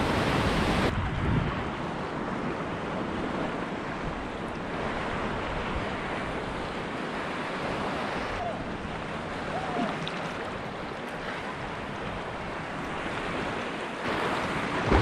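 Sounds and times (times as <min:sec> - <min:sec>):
ocean water rushing: 0:00.0 - 0:15.0
wind on microphone: 0:00.0 - 0:15.0.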